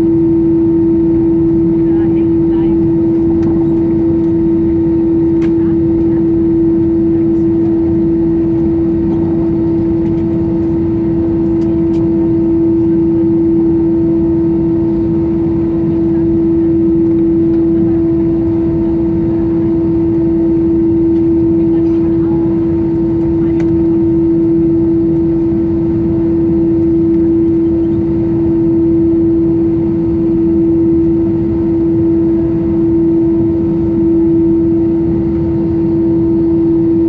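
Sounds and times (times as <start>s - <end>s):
jet engines idling: 0.0s - 37.0s.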